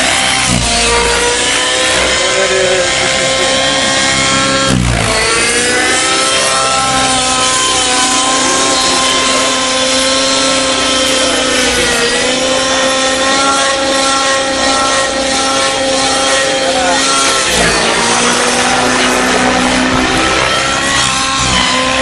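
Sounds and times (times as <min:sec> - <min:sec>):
model helicopter engine whine: 0:00.0 - 0:22.0.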